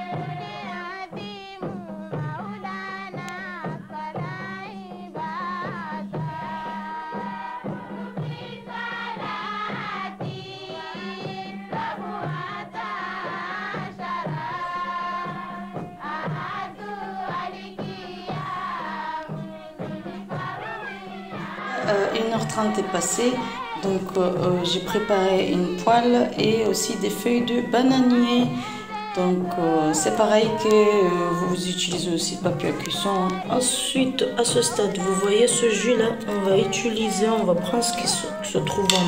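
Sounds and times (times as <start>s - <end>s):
song with singing voices: 0.0s - 39.0s.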